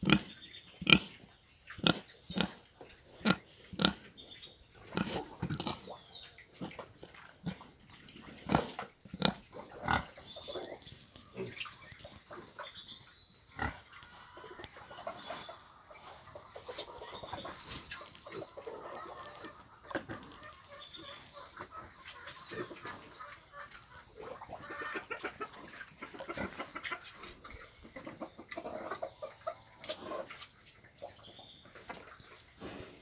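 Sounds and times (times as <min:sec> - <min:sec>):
pigs grunting and snuffling: 0:00.0 - 0:33.0.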